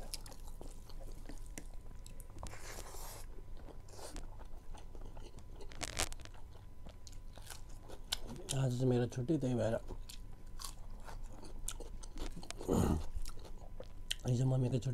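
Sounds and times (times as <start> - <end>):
person chewing with wet smacks: 0.0 - 8.6, 9.8 - 14.3.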